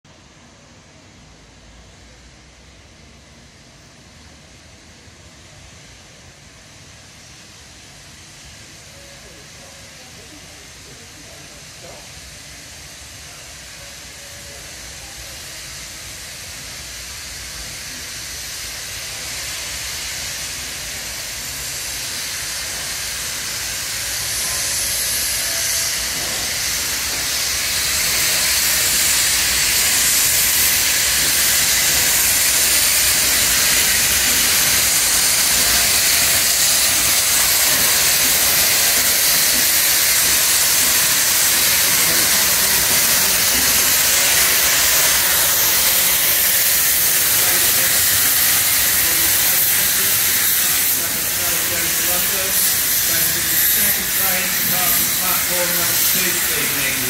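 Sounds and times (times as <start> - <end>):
steam locomotive hissing: 0.1 - 57.0.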